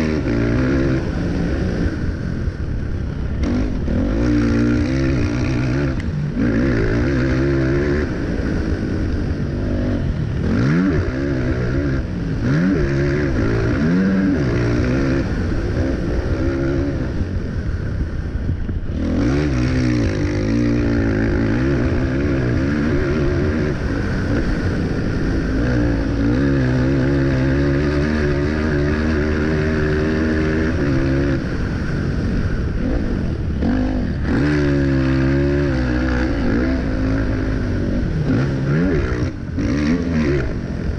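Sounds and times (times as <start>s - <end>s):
quad engine revving: 0.0s - 2.4s, 3.1s - 17.5s, 18.8s - 40.9s.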